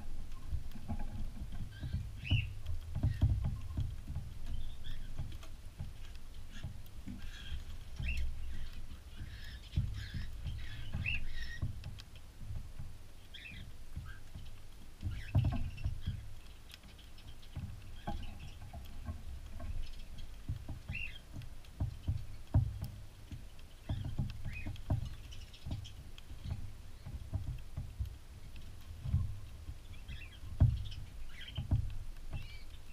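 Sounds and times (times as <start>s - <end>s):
birds rustling and scratching: 0.0s - 32.9s.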